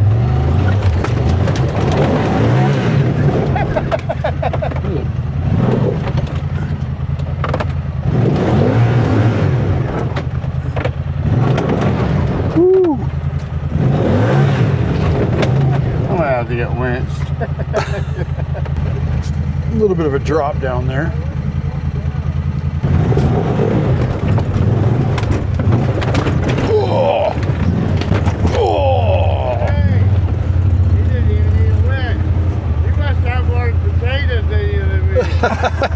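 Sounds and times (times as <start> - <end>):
rough clattering and knocks: 0.0 - 19.6, 22.6 - 35.9
utility vehicle engine under load: 0.0 - 35.9.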